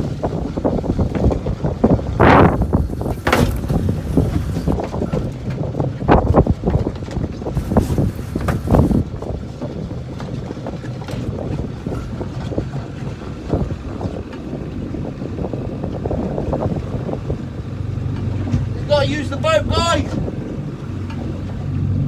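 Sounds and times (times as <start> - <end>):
boat engine hum: 0.0 - 22.0
wind buffeting microphone: 0.0 - 22.0.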